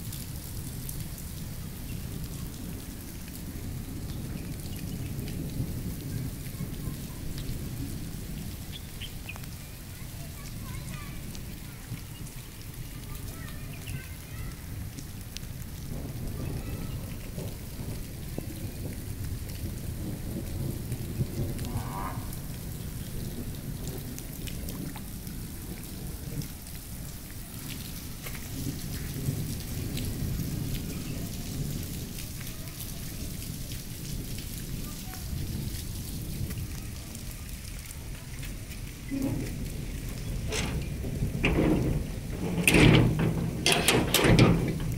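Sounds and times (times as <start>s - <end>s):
rain pattering on roofs: 0.0s - 44.9s.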